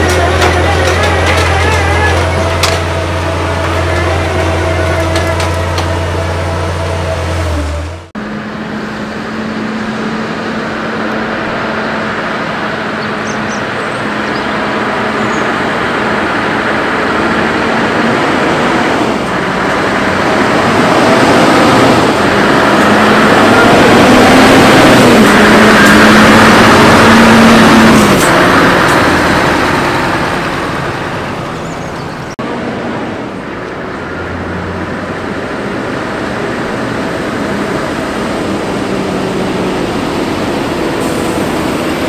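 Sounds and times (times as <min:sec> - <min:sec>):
diesel engine humming: 0:00.0 - 0:42.0
road traffic: 0:00.0 - 0:42.0
truck engine approaching: 0:00.0 - 0:42.0.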